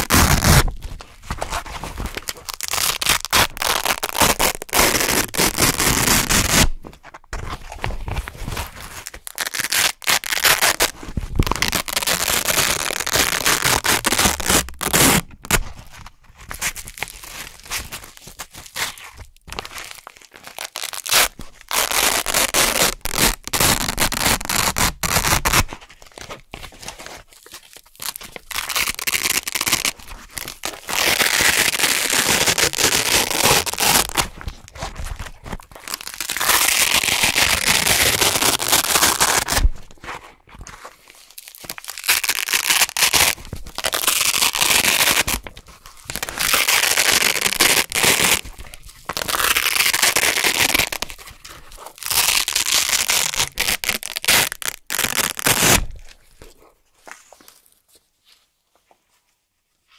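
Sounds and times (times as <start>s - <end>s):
velcro ripping: 0.0s - 6.8s, 8.7s - 15.7s, 16.5s - 25.8s, 27.4s - 39.9s, 41.2s - 56.5s.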